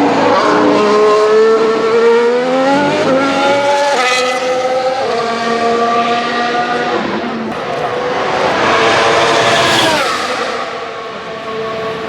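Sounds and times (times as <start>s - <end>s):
racing car engine accelerating: 0.0s - 12.0s
gear changes: 1.8s - 12.0s.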